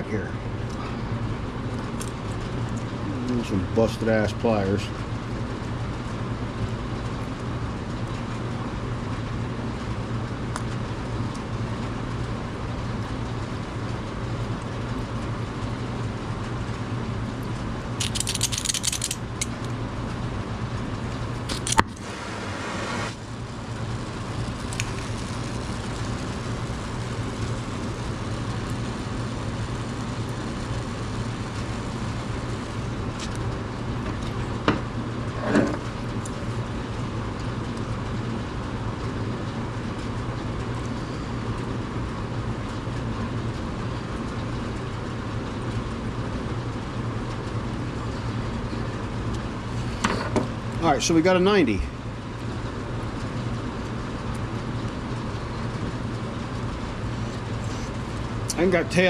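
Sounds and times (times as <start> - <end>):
low workshop hum: 0.0 - 59.0.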